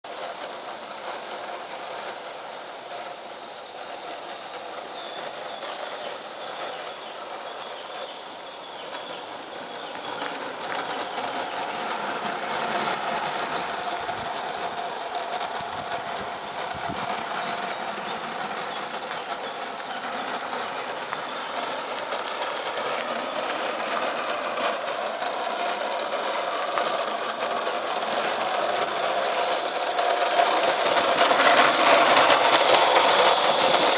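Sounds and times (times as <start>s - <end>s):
model steam locomotive running: 0.0s - 33.9s.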